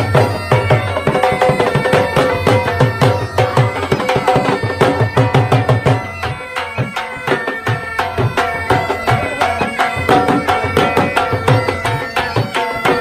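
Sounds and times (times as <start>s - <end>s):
held melodic notes: 0.0s - 13.0s.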